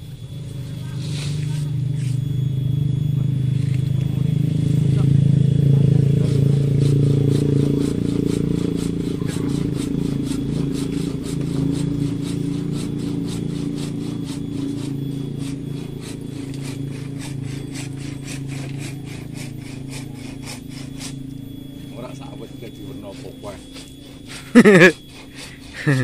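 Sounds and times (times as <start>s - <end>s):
engine hum: 0.0s - 26.0s
hand saw rasping through branch: 0.8s - 2.3s, 4.8s - 26.0s.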